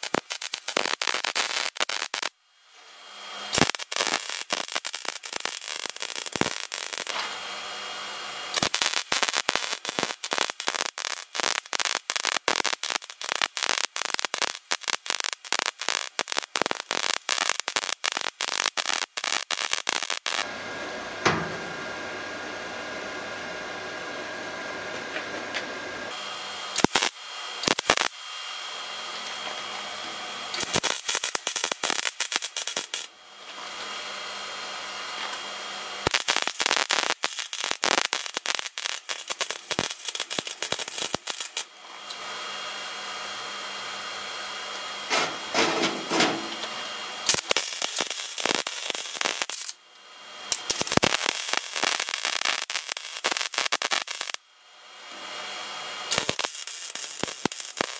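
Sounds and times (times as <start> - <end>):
welding arc crackling: 0.0 - 2.4, 3.4 - 20.5, 26.1 - 28.9, 30.5 - 33.1, 34.0 - 54.4, 55.4 - 57.9.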